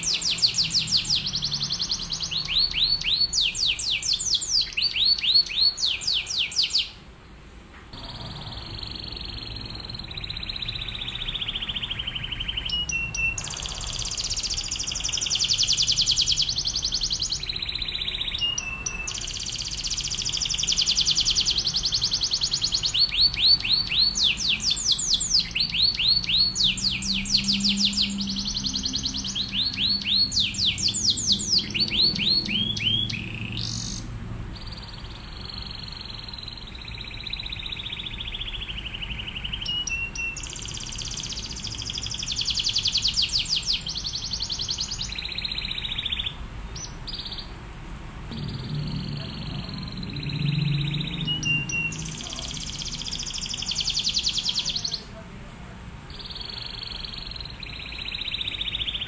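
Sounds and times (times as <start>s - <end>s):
canary singing trills: 0.0s - 7.0s, 7.9s - 47.7s, 48.3s - 55.2s, 56.0s - 59.0s.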